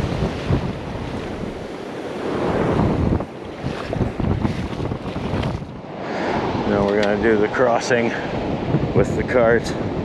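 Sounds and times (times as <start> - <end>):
surf washing: 0.0 - 10.0
wind gusting across microphone: 0.0 - 10.0.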